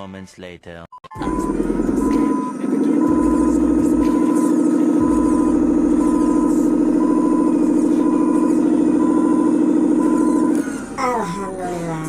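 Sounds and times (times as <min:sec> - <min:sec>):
reversing alarm beeping: 0:01.1 - 0:11.0
truck engine droning: 0:01.2 - 0:12.0.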